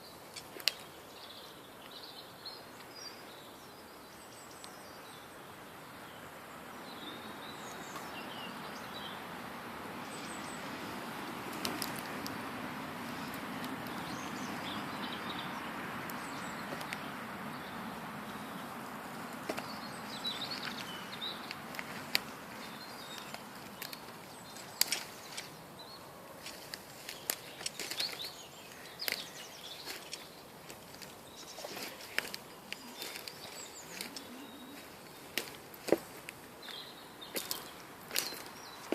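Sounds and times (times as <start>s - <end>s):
birds chirping: 0.0s - 38.9s
steady outdoor rush: 5.0s - 38.9s.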